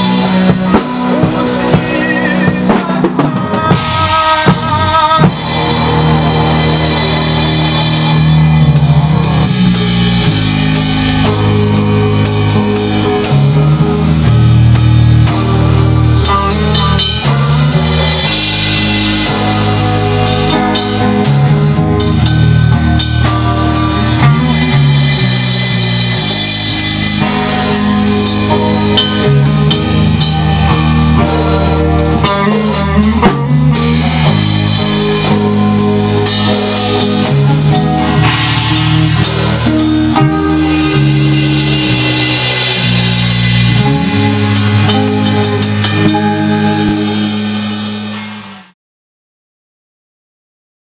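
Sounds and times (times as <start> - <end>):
drum kit with cymbals: 0.0 - 48.8
electric bass: 0.0 - 48.8
electric guitar: 0.0 - 48.8.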